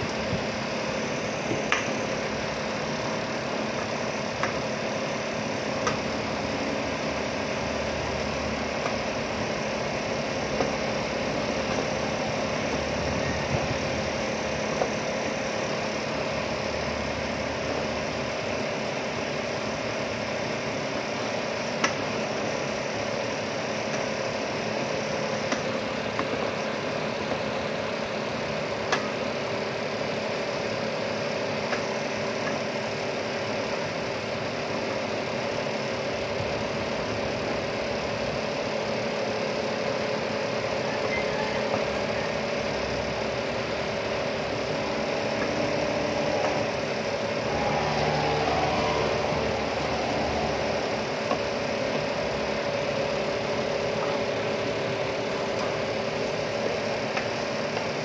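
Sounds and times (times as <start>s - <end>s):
machine hum: 0.0s - 28.9s, 30.6s - 58.0s.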